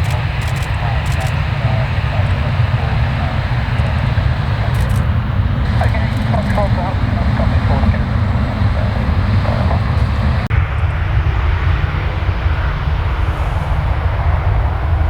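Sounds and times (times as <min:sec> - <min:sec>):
jet engine rumble: 0:00.0 - 0:15.0
wind buffeting microphone: 0:00.0 - 0:15.0.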